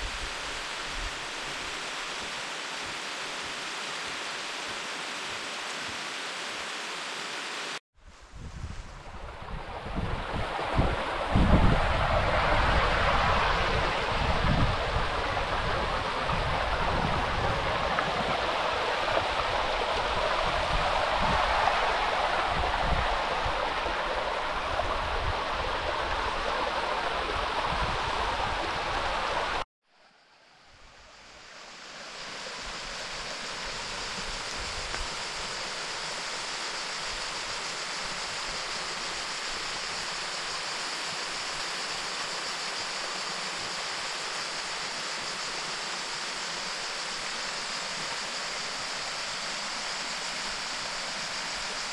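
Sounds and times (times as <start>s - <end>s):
rushing river water: 0.0s - 7.8s, 8.9s - 29.6s, 31.4s - 51.9s
higher-pitched rush of water: 0.0s - 29.7s, 30.8s - 51.9s.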